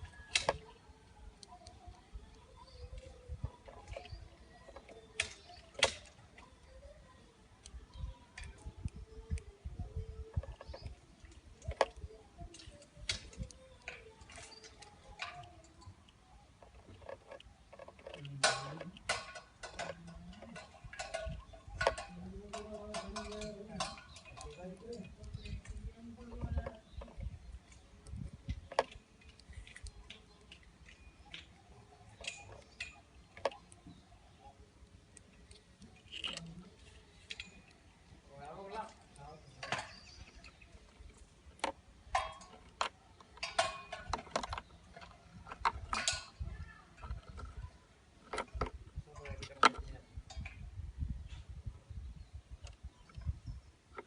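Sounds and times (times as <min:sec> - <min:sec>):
bird bill pecking seeds: 0:00.0 - 0:46.2.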